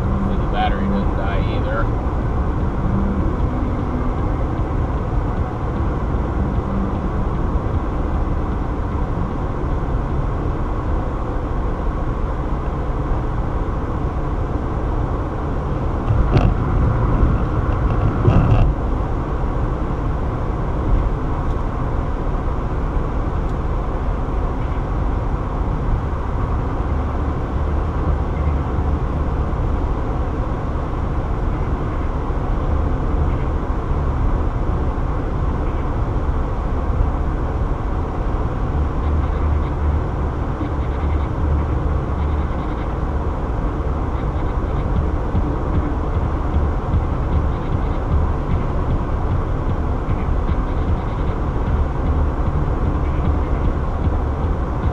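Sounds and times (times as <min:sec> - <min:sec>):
tyre road noise in car: 0:00.0 - 0:54.9.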